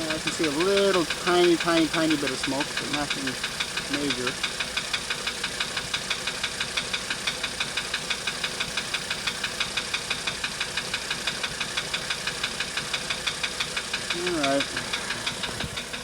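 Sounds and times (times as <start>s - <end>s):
diesel engine idling with knock: 0.0s - 16.0s.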